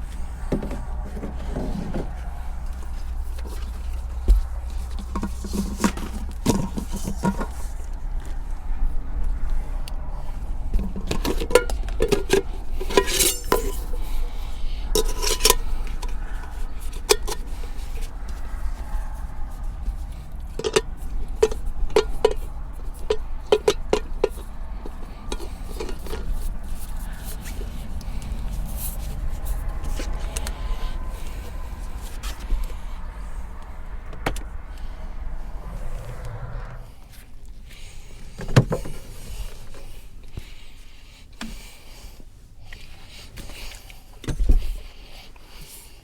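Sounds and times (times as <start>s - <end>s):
low wind rumble: 0.0s - 38.3s.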